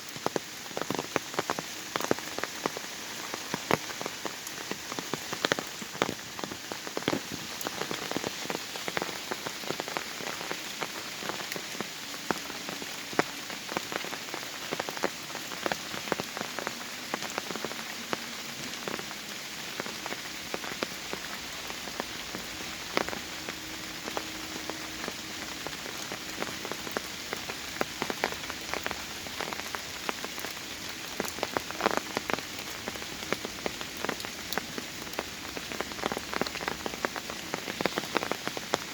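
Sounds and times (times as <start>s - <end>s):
raindrops striking close by: 0.0s - 38.9s
steady hiss of rain: 0.0s - 38.9s.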